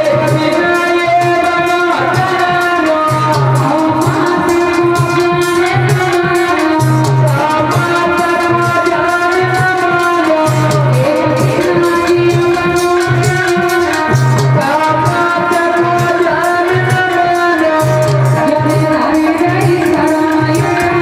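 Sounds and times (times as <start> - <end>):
hand drum beat: 0.0 - 21.0
sustained instrumental tones: 0.0 - 21.0
woman singing: 0.0 - 21.0.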